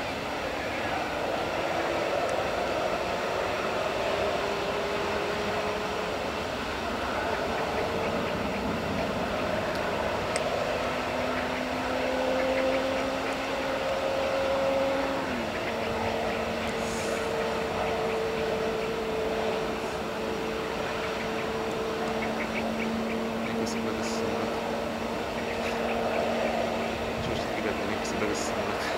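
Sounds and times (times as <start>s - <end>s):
faint whining tones: 0.0s - 28.9s
jet engines idling: 0.0s - 28.9s.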